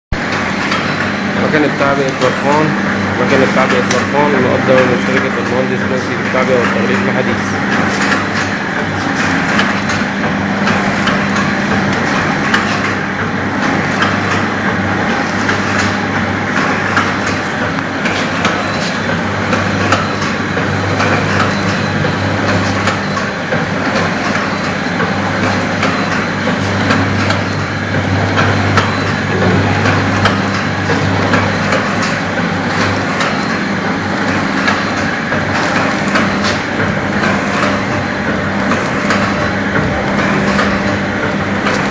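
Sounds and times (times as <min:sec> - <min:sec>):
low steady machine hum: 0:00.2 - 0:41.9.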